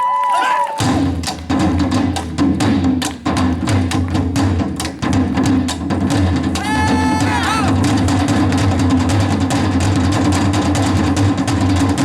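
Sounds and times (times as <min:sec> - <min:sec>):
deep drums: 0:00.8 - 0:12.0.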